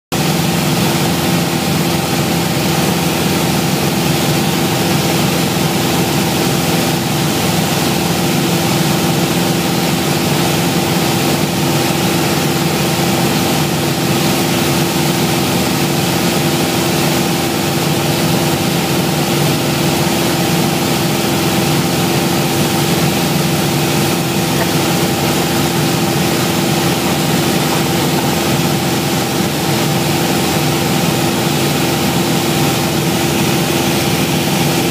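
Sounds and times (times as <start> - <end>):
propeller plane engine drone: 0.1 - 34.9.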